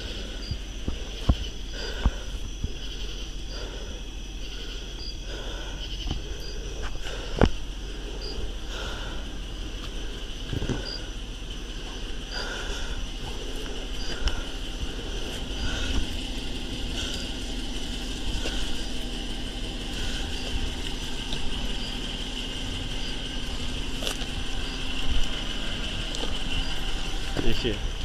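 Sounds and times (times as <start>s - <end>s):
high-pitched drone: 0.0s - 28.0s
low hum: 0.0s - 28.0s.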